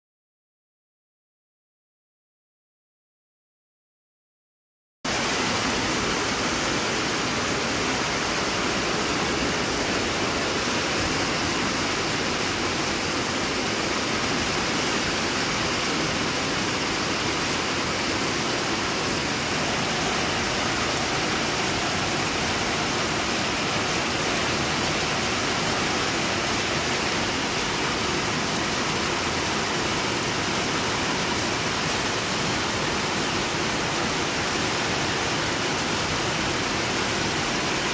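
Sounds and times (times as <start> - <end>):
heavy rain pouring: 5.1 - 37.9.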